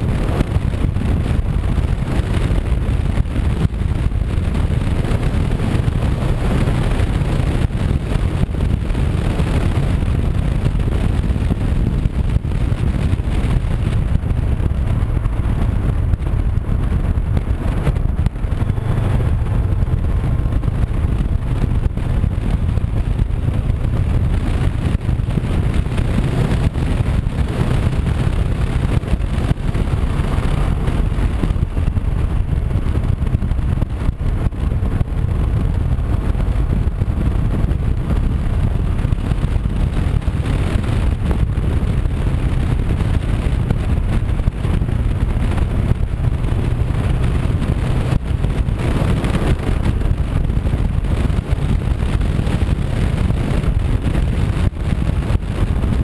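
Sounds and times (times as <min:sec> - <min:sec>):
motorcycle engine running: 0:00.0 - 0:56.0
road noise: 0:00.0 - 0:56.0
wind buffeting microphone: 0:00.0 - 0:56.0.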